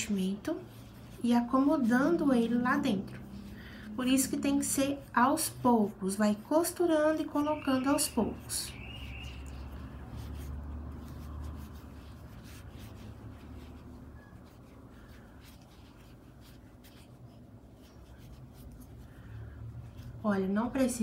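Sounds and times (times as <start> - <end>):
scratchy rubbing and rustling: 0.0 - 21.0.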